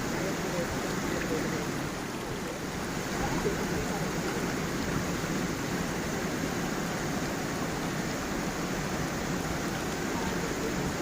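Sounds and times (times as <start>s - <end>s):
water rushing over stones: 0.0s - 11.0s.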